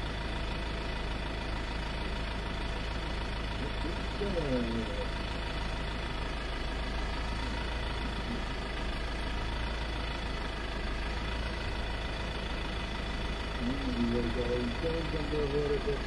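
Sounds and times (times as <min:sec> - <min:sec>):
locomotive engine idling: 0:00.0 - 0:16.0.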